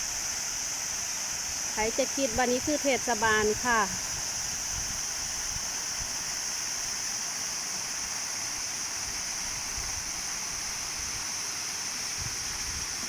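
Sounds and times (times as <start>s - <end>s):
high hiss: 0.0s - 13.0s
waterfall rushing into pond: 0.0s - 13.0s.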